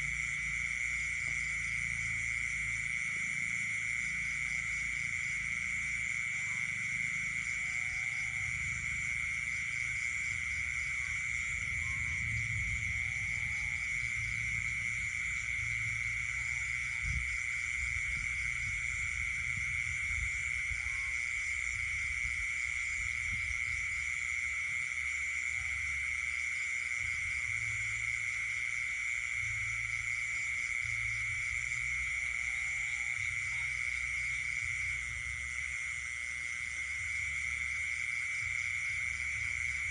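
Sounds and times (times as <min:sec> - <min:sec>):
high trilling drone: 0:00.0 - 0:39.9.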